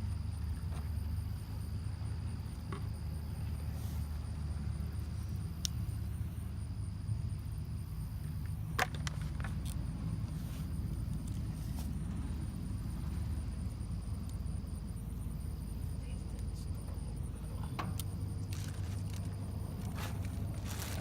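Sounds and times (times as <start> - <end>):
low machine rumble: 0.0 - 21.0.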